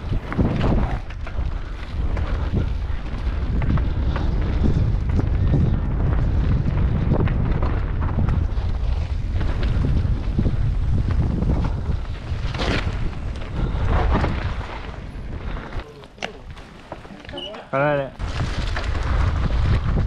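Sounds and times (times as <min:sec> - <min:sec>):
wind buffeting microphone: 0:00.0 - 0:16.6, 0:18.2 - 0:20.0
bike rattling over rocks: 0:00.0 - 0:20.0.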